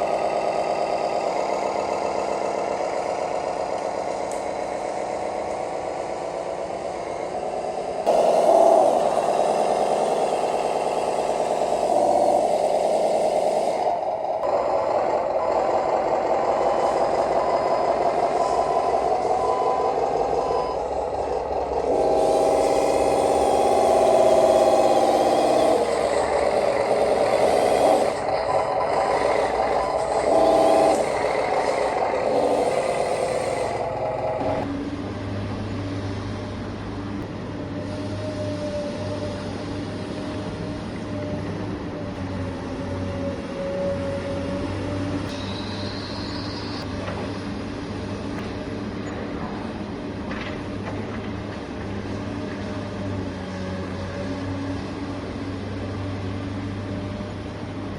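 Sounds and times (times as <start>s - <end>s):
electric motors whining: 0.0s - 34.7s, 37.5s - 55.4s.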